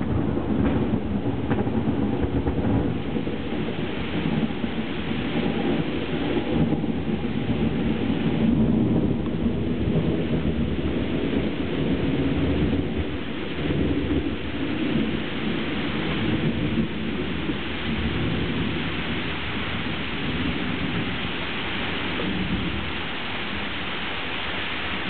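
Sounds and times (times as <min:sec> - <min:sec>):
low rumble of thunder: 0:00.0 - 0:23.8
steady rain falling: 0:00.0 - 0:25.0.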